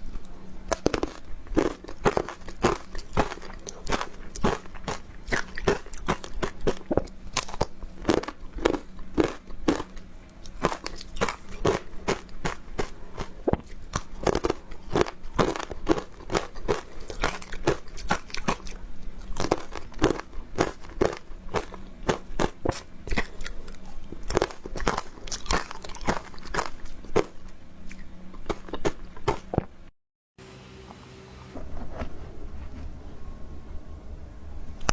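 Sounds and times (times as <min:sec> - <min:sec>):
crunching and chewing ice: 0:00.0 - 0:29.7.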